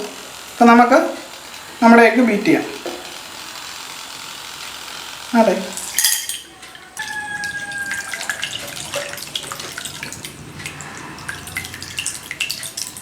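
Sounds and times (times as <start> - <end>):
electric egg beater whisking: 0.0 - 13.0.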